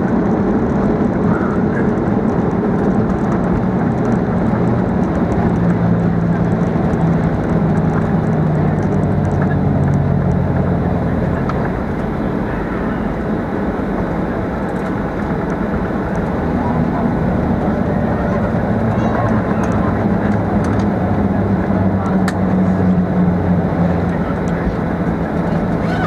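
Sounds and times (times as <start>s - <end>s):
aircraft cabin rumble: 0.0s - 26.0s.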